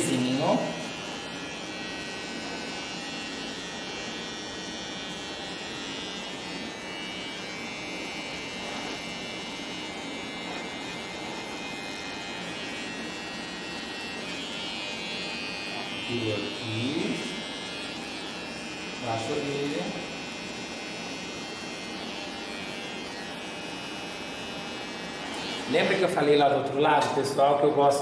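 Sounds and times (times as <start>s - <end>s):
electric hair trimmer buzzing: 0.0s - 28.0s.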